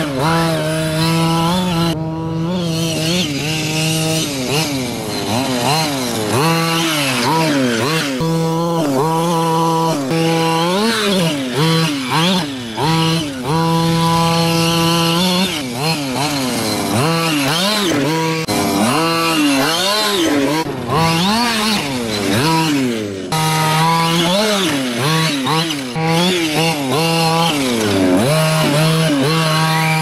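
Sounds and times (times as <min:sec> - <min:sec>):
small two-stroke engine revving: 0:00.0 - 0:30.0.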